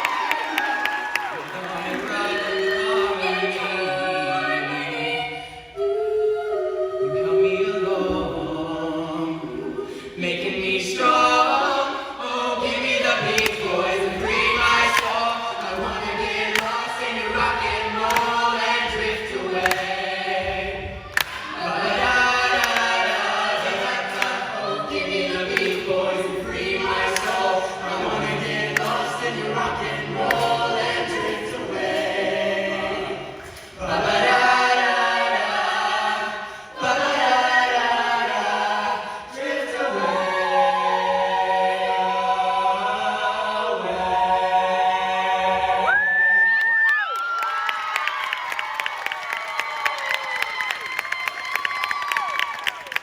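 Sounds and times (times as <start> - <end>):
choir singing a rock number: 0.0 - 46.6.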